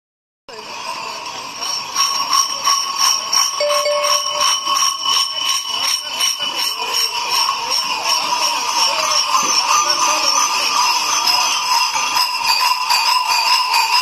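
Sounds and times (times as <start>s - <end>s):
large metal bells clanging: 1.5s - 14.0s.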